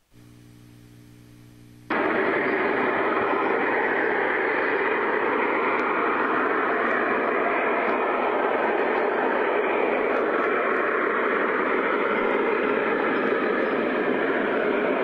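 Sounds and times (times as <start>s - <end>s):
low electrical hum: 0.0s - 14.2s
gas venting roar: 0.0s - 15.0s.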